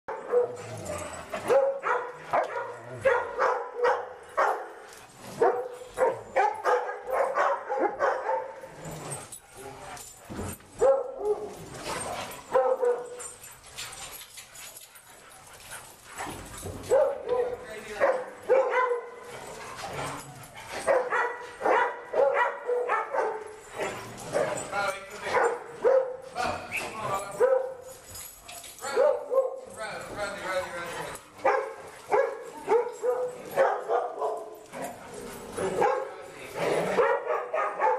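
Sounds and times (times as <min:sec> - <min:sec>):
large dogs barking: 0:00.1 - 0:09.5, 0:10.5 - 0:13.6, 0:14.6 - 0:26.6, 0:27.3 - 0:29.8, 0:30.6 - 0:37.9.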